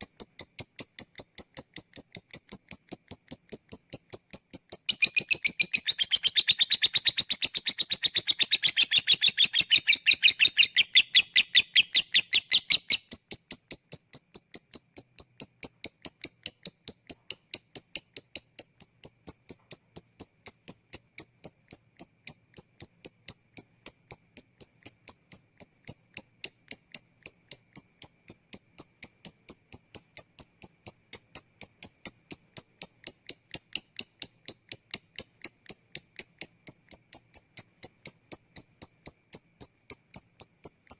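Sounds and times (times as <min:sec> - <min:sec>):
lovebird ticking calls: 0:00.0 - 0:40.9.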